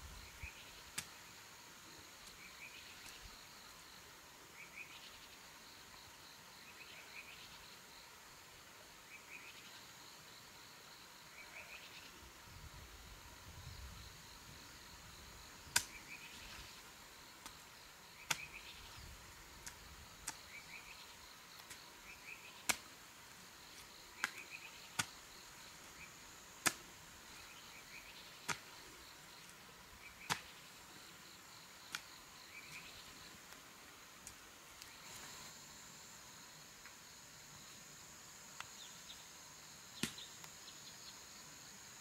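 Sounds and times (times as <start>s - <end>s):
insects chorus: 0.0s - 42.0s.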